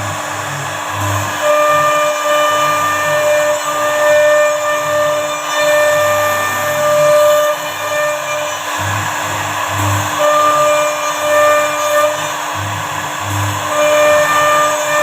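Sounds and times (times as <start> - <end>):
high-pitched whine: 0.0 - 15.0
hiss of wood cutting: 0.0 - 15.0
router spindle hum: 0.0 - 15.0.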